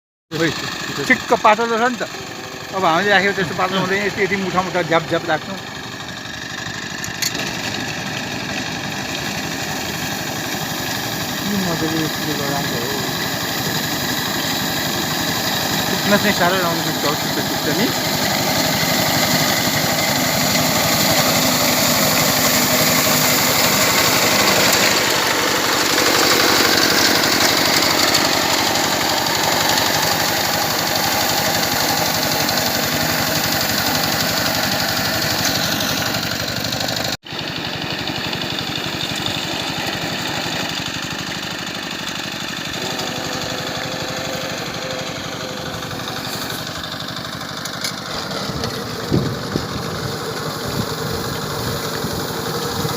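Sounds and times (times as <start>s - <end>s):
small reaper engine running: 0.3s - 52.9s.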